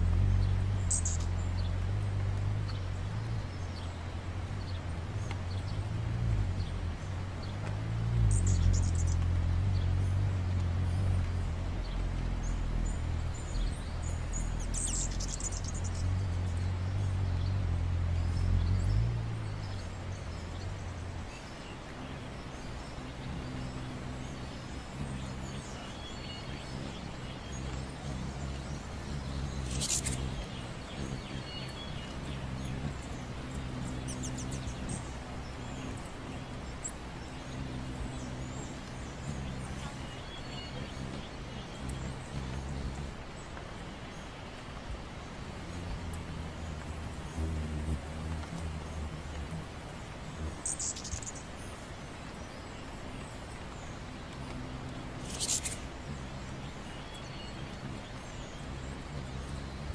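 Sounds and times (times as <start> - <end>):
hummingbird wing hum: 0.0 - 59.9.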